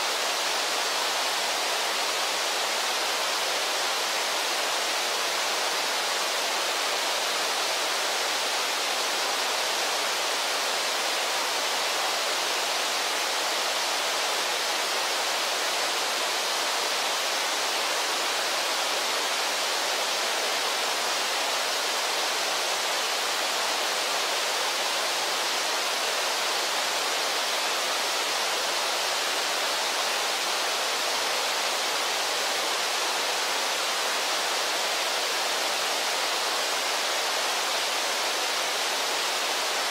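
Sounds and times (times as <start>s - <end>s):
river waterfall rushing: 0.0s - 39.9s.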